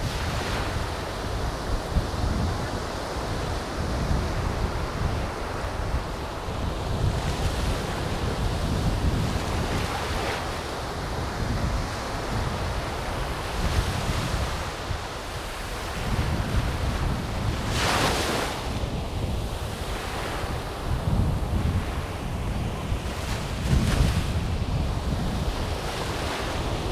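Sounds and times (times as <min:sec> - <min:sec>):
surf washing on beach: 0:00.0 - 0:26.9
wind buffeting microphone: 0:00.0 - 0:26.9.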